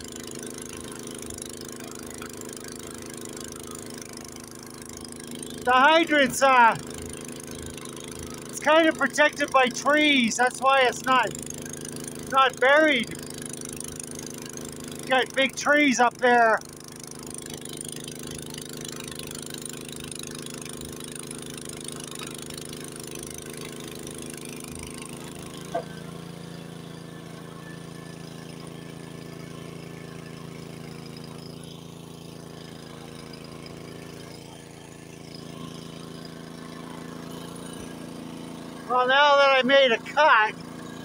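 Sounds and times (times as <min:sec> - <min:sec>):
snowblower engine running: 0:00.0 - 0:41.0.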